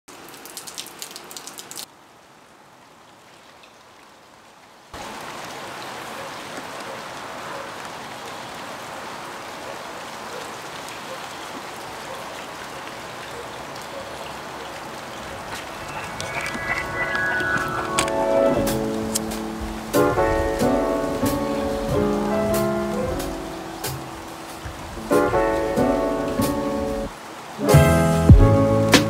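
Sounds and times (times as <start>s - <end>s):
rain drops ticking: 0.1s - 29.0s
rain hiss: 0.1s - 29.0s.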